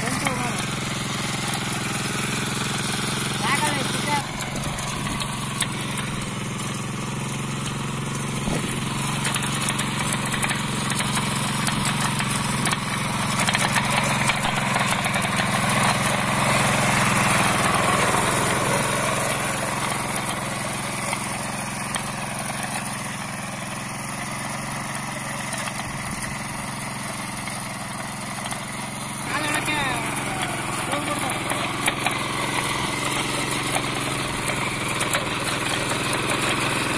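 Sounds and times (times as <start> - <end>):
tiller engine running under load: 0.0 - 36.9.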